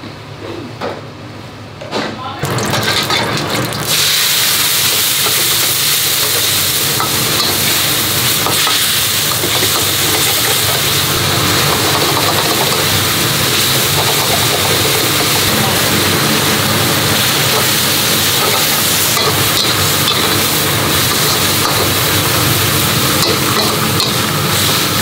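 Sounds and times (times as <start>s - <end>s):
gas burner rushing: 2.4s - 25.0s
food sizzling in a wok: 2.5s - 25.0s.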